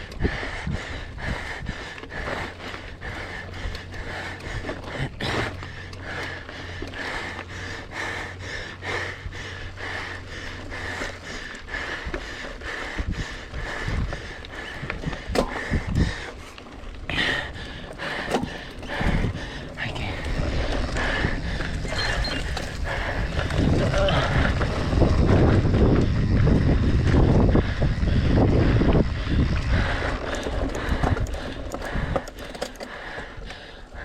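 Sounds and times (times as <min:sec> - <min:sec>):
heavy labored breathing: 0:00.0 - 0:34.0.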